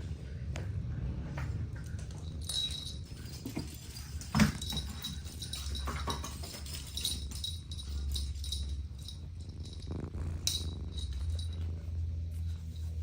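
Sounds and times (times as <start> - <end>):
low steady rumble: 0.0 - 13.0
kittens tapping and scuffling: 0.5 - 13.0.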